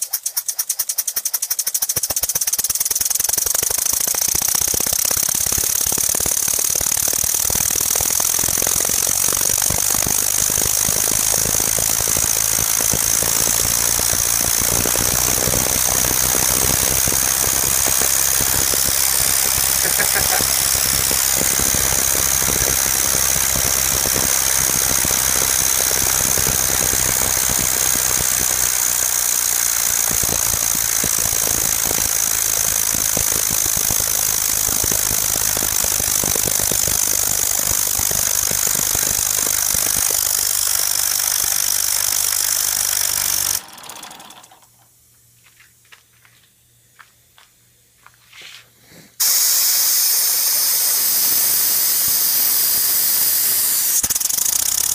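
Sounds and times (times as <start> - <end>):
air hissing: 0.0 - 40.1, 48.6 - 54.8
small engine clattering: 0.0 - 44.9, 50.6 - 54.9.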